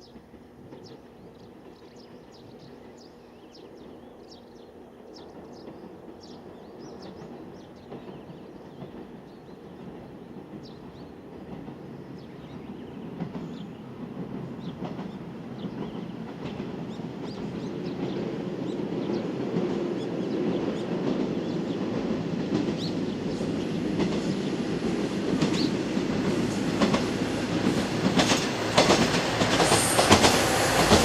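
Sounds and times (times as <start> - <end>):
birds chirping: 0.0 - 31.0
diesel railcar engine and wheel rumble: 0.0 - 31.0.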